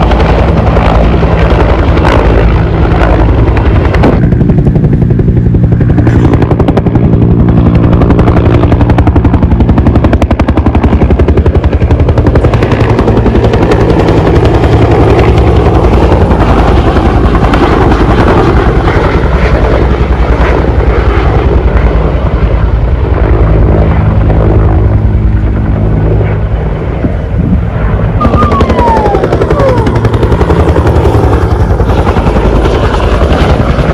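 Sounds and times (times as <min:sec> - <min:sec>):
helicopter engine drone: 0:00.0 - 0:33.9
helicopter rotor chop: 0:00.0 - 0:33.9.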